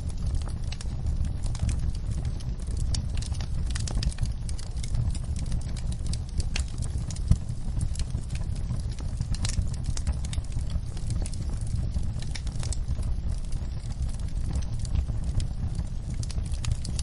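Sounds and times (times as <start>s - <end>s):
campfire crackling: 0.0s - 17.0s
low rumble: 0.0s - 17.0s.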